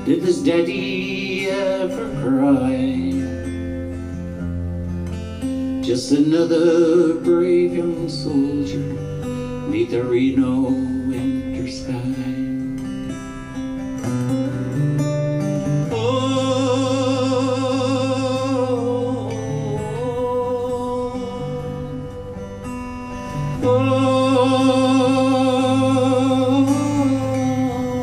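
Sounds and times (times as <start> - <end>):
acoustic guitar ballad: 0.0 - 28.0.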